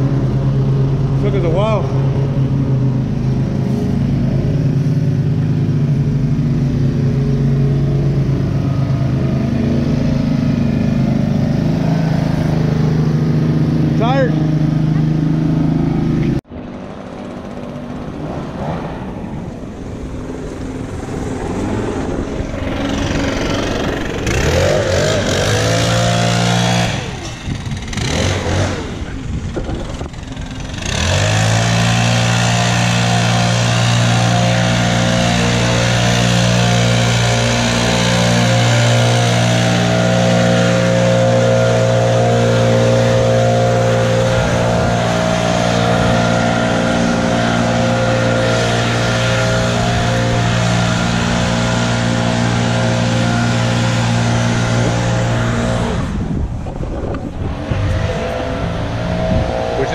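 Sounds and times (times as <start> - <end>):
leaf blower engine running: 0.0 - 59.9
push mower engine: 0.0 - 59.9.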